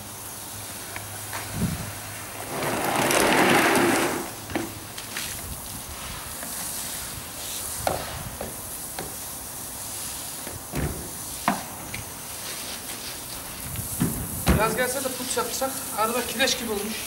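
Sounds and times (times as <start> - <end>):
brush scrubbing a car door: 2.4 - 16.9.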